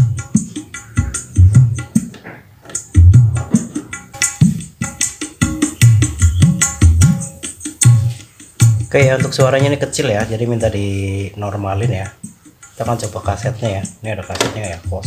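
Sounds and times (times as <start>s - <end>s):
drum and bass music: 0.0s - 2.2s, 2.8s - 15.0s.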